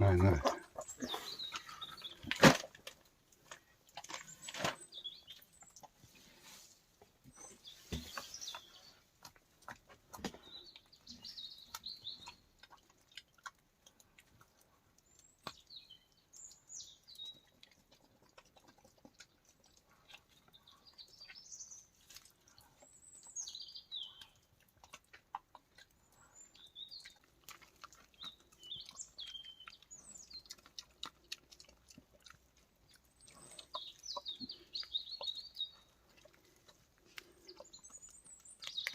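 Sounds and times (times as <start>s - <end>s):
boar chewing clicks: 0.0s - 6.2s, 7.0s - 38.9s
small birds chirping: 0.0s - 38.9s.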